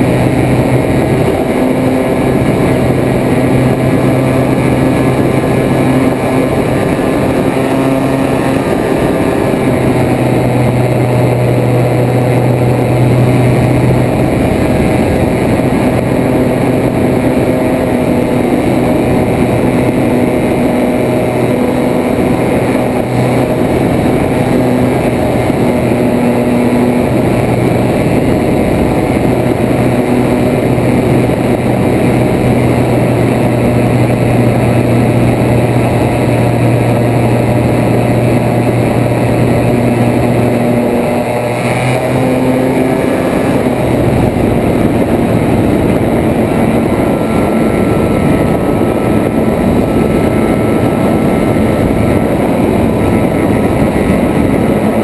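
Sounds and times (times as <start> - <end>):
propeller aircraft engine: 0.0 - 55.0
wind rushing: 0.0 - 55.0.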